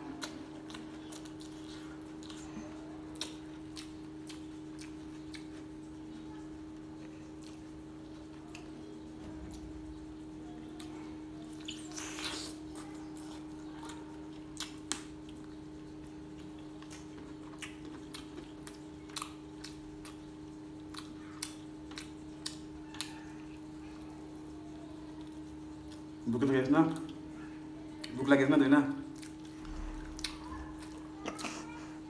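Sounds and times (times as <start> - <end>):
wet chewing: 0.0 - 31.8
steady low hum: 0.0 - 32.0.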